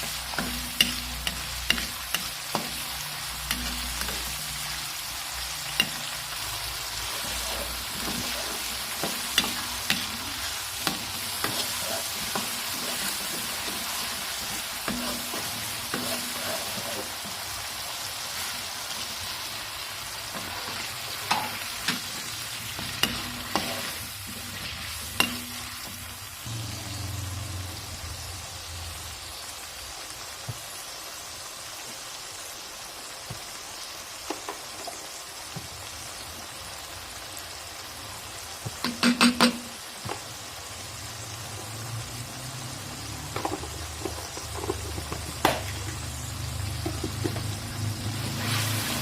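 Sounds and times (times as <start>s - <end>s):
vegetables sizzling in hot oil: 0.0s - 49.0s.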